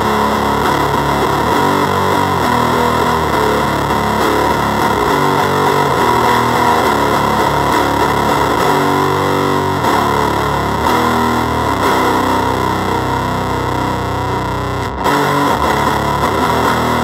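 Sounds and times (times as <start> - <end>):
fuzzed electric guitar chords: 0.0 - 17.0.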